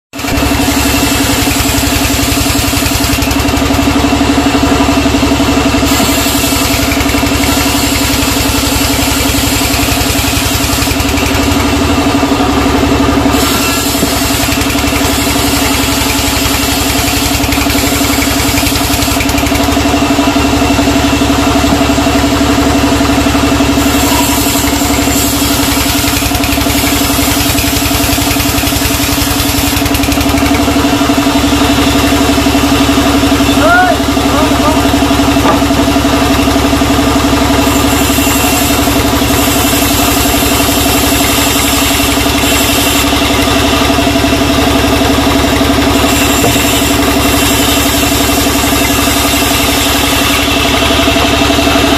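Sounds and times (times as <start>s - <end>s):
band saw cutting logs: 0.1s - 51.9s.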